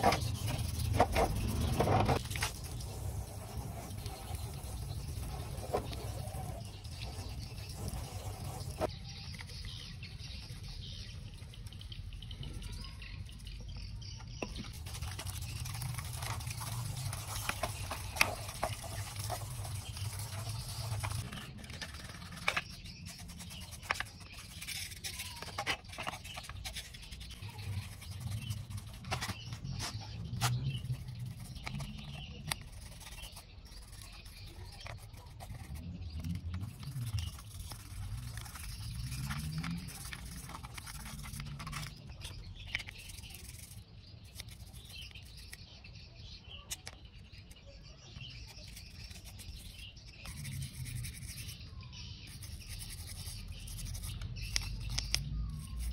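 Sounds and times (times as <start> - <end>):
stiff brush scrubbing: 0.0 - 8.9, 14.7 - 45.6, 48.6 - 55.9.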